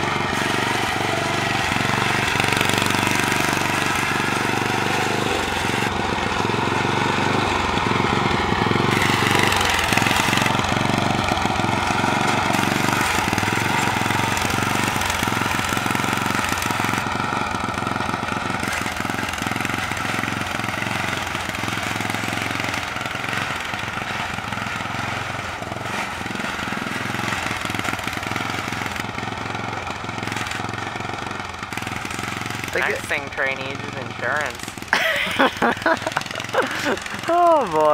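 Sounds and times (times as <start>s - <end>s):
riding mower engine running: 0.0s - 37.9s.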